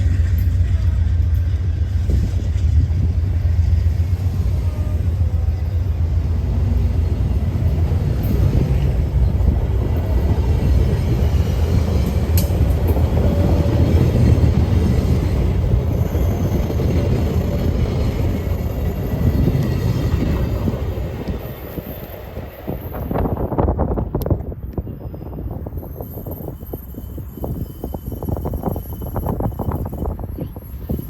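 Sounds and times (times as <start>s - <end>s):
train rumbling on tracks: 0.0s - 31.0s.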